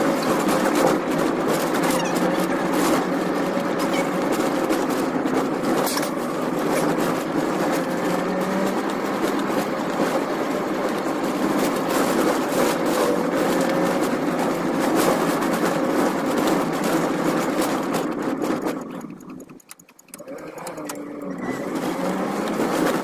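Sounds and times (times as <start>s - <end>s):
car engine running: 0.0s - 23.0s
road noise inside car: 0.0s - 23.0s
small clicks and rattles: 3.8s - 23.0s.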